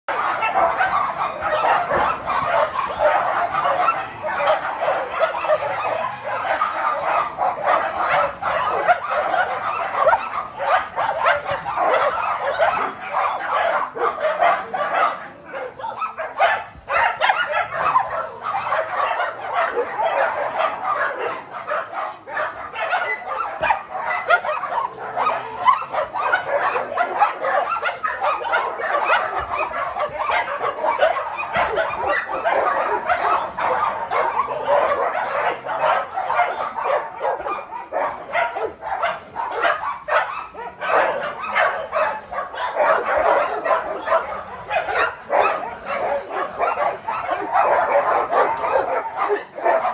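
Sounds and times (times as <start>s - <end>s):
dogs barking and yipping: 0.0s - 49.9s
dogs whining: 0.1s - 49.9s.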